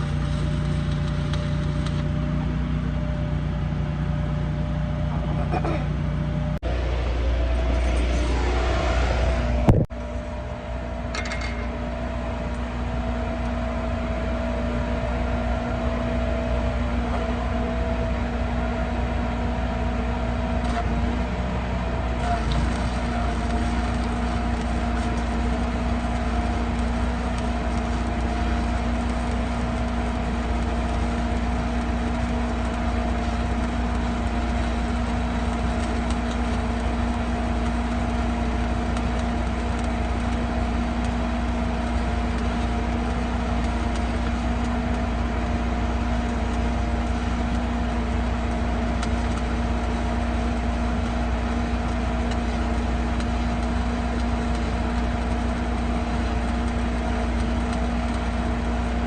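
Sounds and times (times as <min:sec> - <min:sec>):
welding machine humming and hissing: 0:00.0 - 0:59.0.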